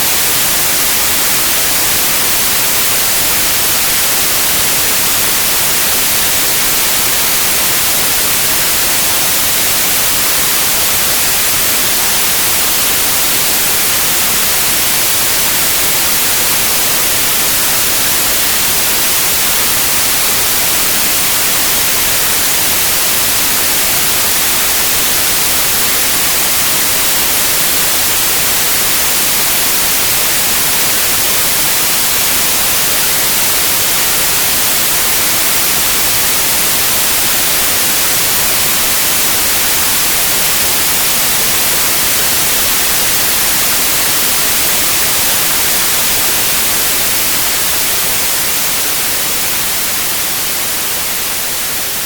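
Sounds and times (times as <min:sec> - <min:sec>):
steady white noise hiss: 0:00.0 - 0:52.0.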